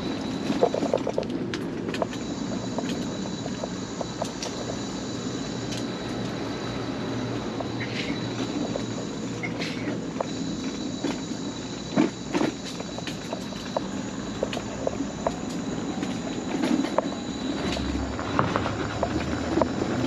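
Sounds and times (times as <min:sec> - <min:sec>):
wheels clacking over planks: 0:00.0 - 0:06.4, 0:07.3 - 0:20.0.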